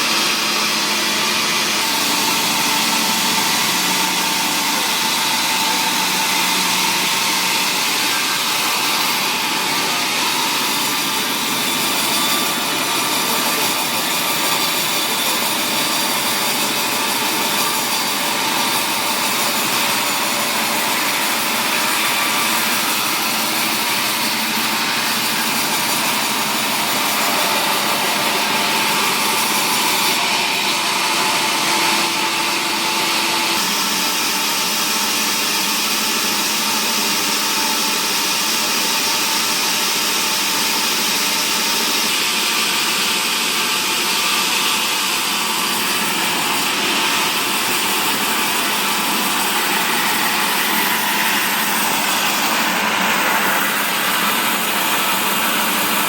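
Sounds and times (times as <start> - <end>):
saw machinery running: 0.0 - 56.0.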